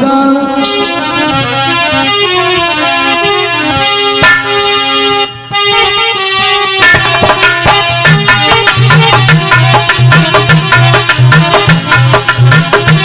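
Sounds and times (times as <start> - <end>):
harmonium melody: 0.0 - 13.0.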